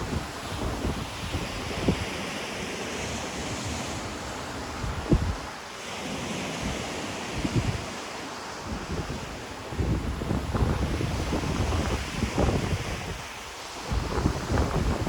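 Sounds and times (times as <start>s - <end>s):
wind buffeting microphone: 0.0s - 2.3s, 3.0s - 5.5s, 6.2s - 8.0s, 8.6s - 15.0s
ocean surf washing on shore: 0.0s - 15.0s.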